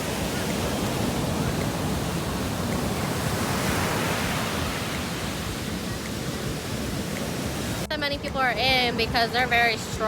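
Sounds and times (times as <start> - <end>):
ocean surf breaking: 0.0 - 10.0.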